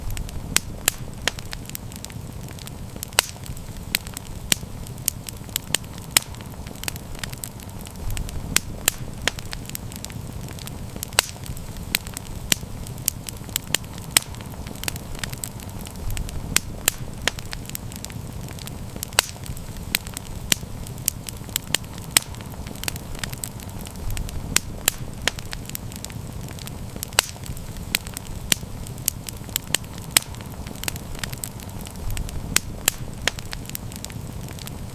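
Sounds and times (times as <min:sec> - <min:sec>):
campfire crackling: 0:00.0 - 0:34.9
low rumble of flames: 0:00.0 - 0:34.9.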